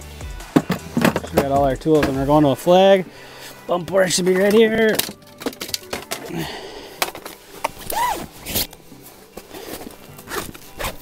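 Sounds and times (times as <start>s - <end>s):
jacket fabric rustling: 0.6s - 11.0s.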